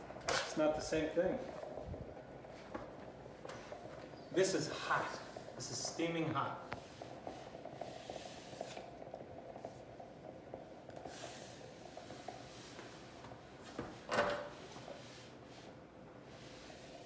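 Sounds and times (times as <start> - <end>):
boiling water crackle: 0.0 - 17.0
garment steamer humming: 0.0 - 17.0.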